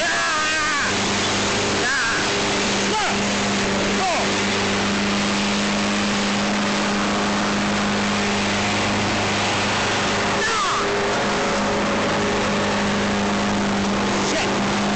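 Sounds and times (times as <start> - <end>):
low hum: 0.0 - 14.9.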